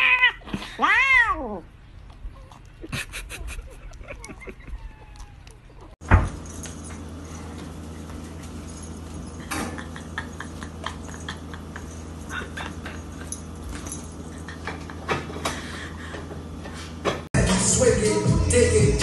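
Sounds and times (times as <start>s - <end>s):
steady low hum: 1.6s - 19.0s.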